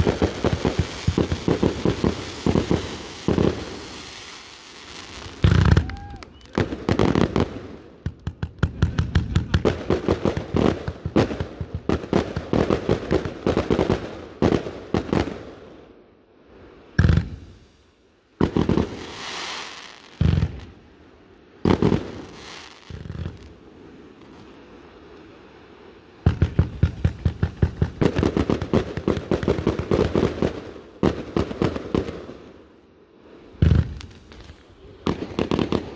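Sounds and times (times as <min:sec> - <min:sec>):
fireworks bangs and crackle: 0:00.0 - 0:15.8, 0:16.9 - 0:20.8, 0:21.6 - 0:25.3, 0:26.2 - 0:32.7, 0:33.4 - 0:35.9.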